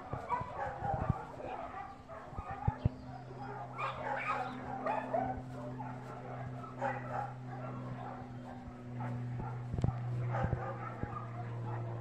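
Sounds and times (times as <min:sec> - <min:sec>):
dogs barking and yipping: 0:00.0 - 0:12.0
steady low hum: 0:00.0 - 0:12.0.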